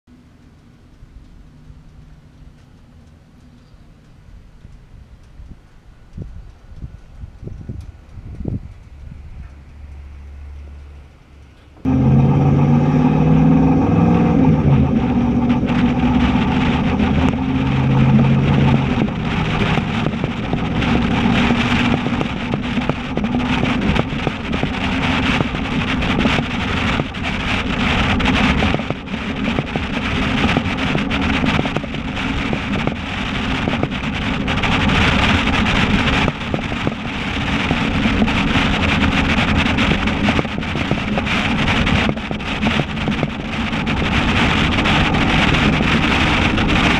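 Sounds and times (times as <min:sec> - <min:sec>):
wind over microphone: 0:04.4 - 0:09.9, 0:11.8 - 0:46.9
truck engine deep exhaust note: 0:06.2 - 0:46.9.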